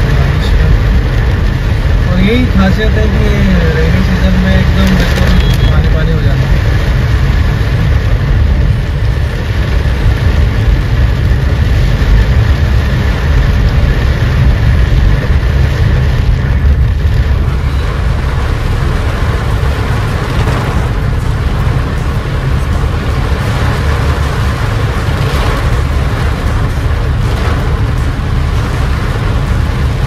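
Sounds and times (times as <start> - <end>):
car rumble on wet road: 0.0 - 30.0
heavy rain on car roof: 0.0 - 30.0.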